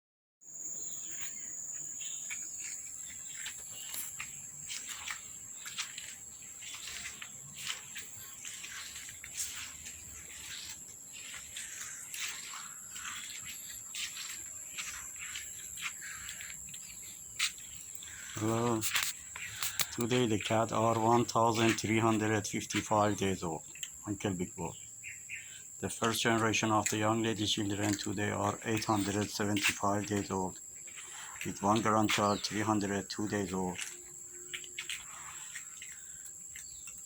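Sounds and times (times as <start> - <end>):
bird chirps: 0.5 - 37.0
high-pitched insect drone: 0.5 - 37.0.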